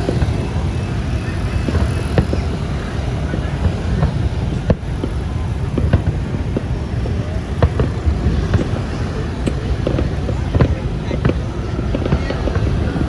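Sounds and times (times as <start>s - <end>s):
fireworks bangs: 0.0s - 13.0s
low outdoor rumble: 0.0s - 13.0s.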